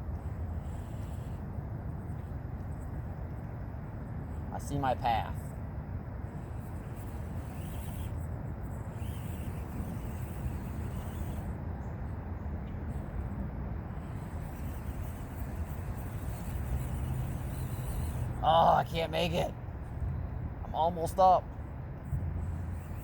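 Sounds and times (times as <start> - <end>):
small electric motor and gears running: 0.0 - 23.0
steady low rumble: 0.0 - 23.0.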